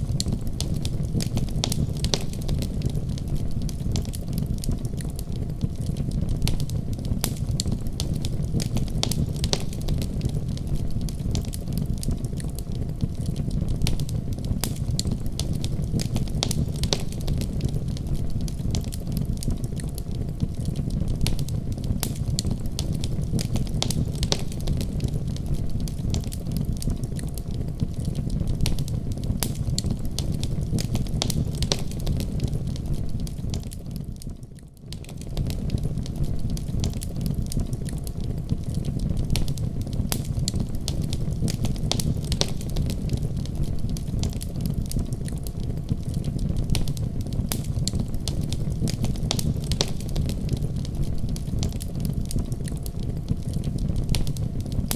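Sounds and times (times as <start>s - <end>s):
wood fire crackling in fireplace: 0.0s - 54.9s.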